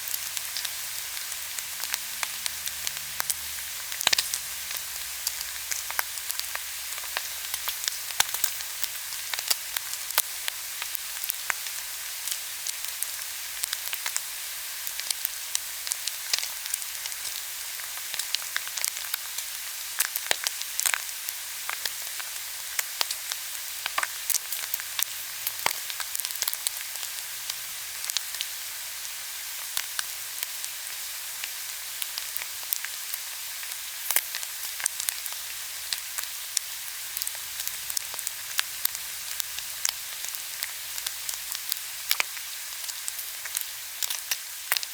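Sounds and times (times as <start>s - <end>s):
meat sizzling on a grill pan: 0.0s - 44.9s.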